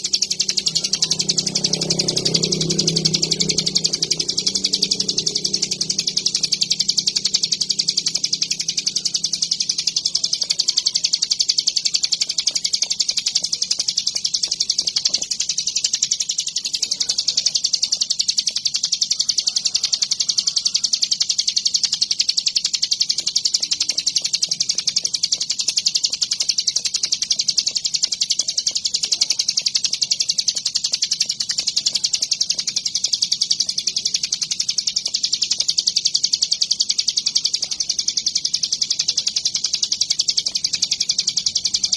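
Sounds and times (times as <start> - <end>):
bird chattering song: 0.0 - 41.9.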